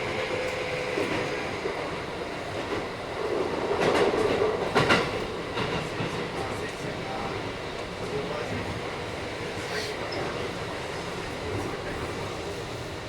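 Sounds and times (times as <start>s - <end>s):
electric train running rumble: 0.0s - 13.0s.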